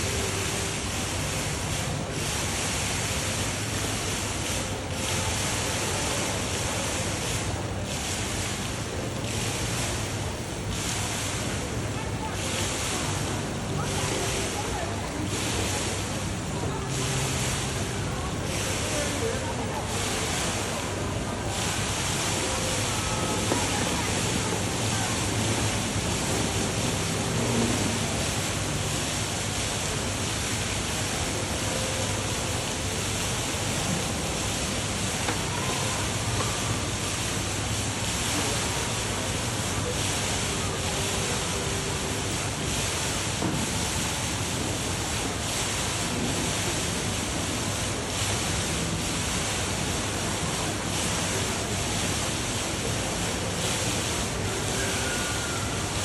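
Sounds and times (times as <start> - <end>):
indoor waterfall running: 0.0 - 56.0.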